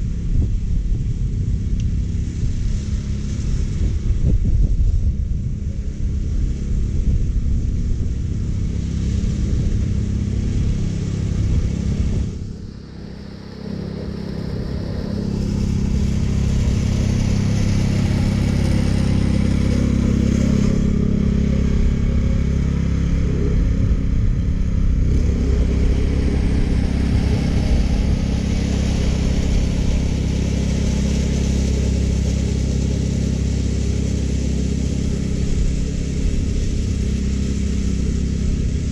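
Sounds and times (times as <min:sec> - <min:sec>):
reel mower cutting grass: 0:00.0 - 0:38.9.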